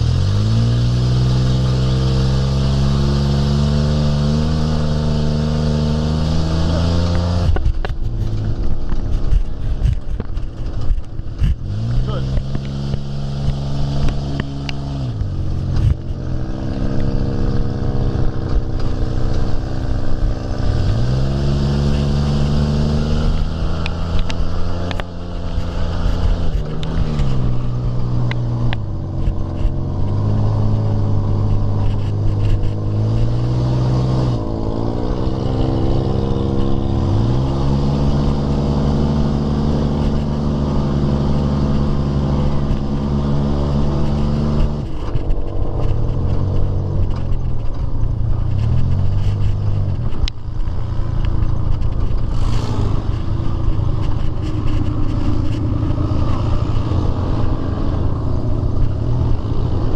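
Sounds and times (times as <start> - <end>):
dune buggy engine revving: 0.0 - 59.9.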